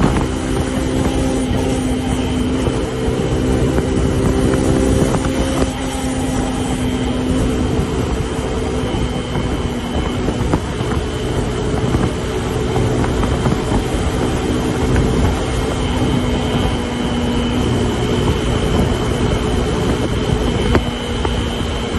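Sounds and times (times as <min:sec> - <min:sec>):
motorcycle engine at high revs: 0:00.0 - 0:21.9
road noise: 0:00.0 - 0:21.9
wind rush: 0:00.0 - 0:21.9.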